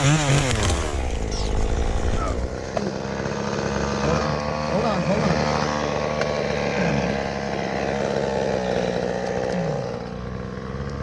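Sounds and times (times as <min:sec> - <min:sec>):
two-stroke chainsaw running: 0:00.0 - 0:11.0.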